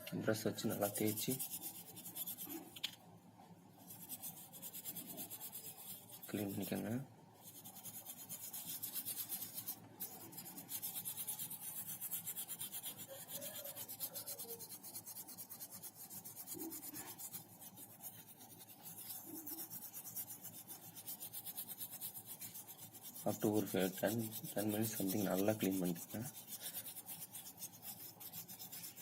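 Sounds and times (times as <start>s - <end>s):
brush scrubbing circuit board: 0.0s - 3.0s, 3.7s - 29.0s.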